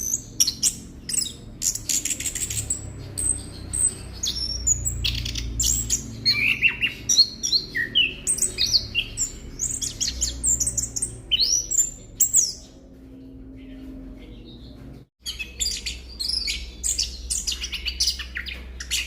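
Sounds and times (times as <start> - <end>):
thrush singing whistled notes: 0.0 - 12.6, 15.2 - 19.0.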